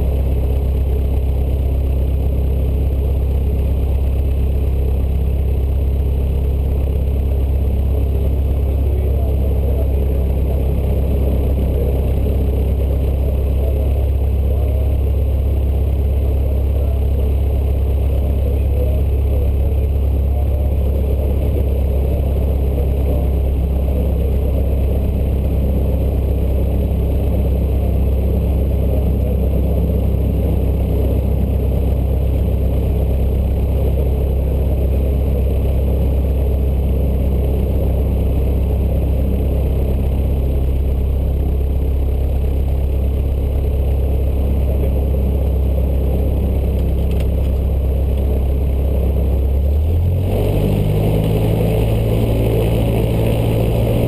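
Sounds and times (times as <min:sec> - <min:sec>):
propeller plane engine hum: 0:00.0 - 0:54.0.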